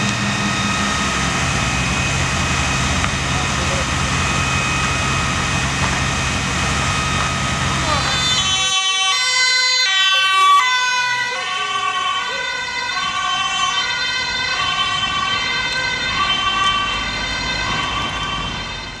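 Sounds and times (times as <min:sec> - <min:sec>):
ambulance two-tone siren: 0:00.0 - 0:19.0.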